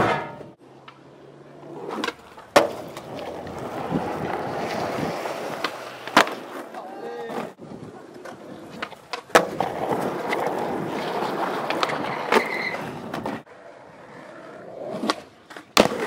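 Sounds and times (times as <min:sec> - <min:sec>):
skateboard clack: 0:00.0 - 0:13.5, 0:14.8 - 0:16.0
skateboard wheels rolling on concrete: 0:00.0 - 0:16.0.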